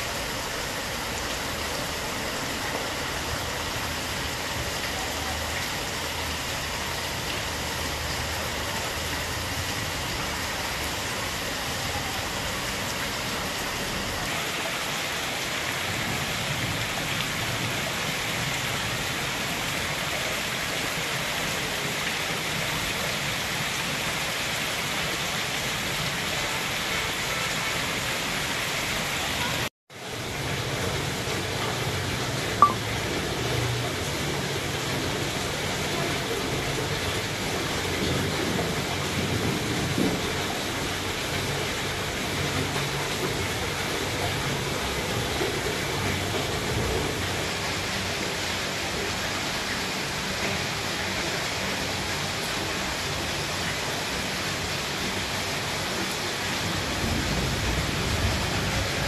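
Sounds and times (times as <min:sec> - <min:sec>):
heavy rain on street: 0:00.0 - 0:59.0.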